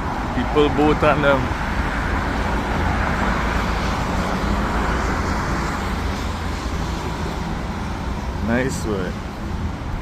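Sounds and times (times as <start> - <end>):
motors rumbling and hissing: 0.0 - 10.0.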